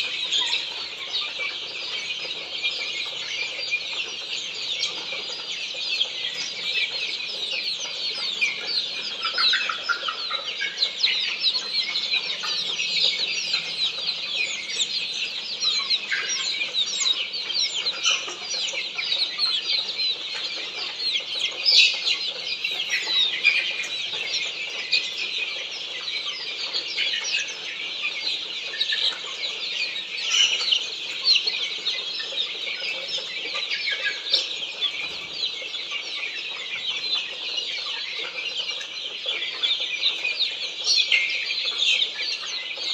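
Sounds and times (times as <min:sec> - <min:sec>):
chicks cheeping: 0:00.0 - 0:42.9.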